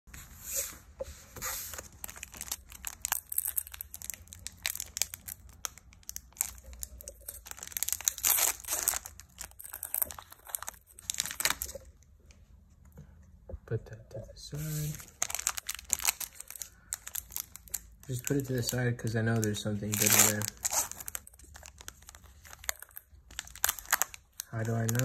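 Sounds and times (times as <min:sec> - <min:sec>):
foil wrapper crinkling and tearing: 0:01.7 - 0:11.9, 0:14.8 - 0:25.0.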